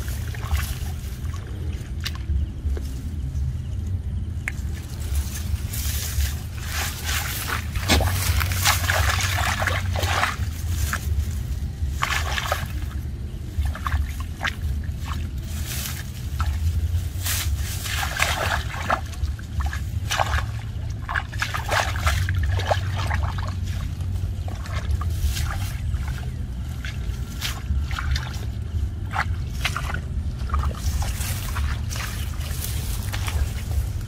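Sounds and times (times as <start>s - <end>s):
low rumble: 0.0s - 34.0s
muddy water splashing: 0.0s - 34.0s.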